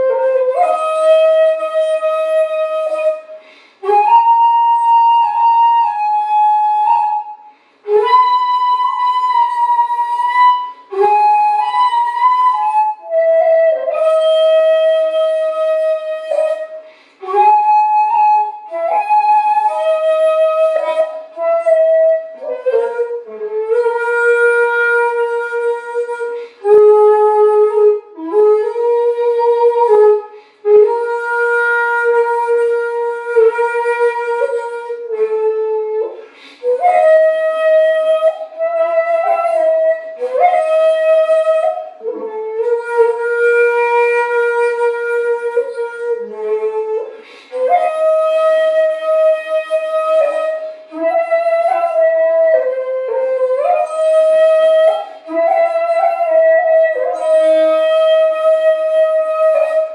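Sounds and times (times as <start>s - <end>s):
bamboo flute long breathy notes: 0.0s - 59.9s.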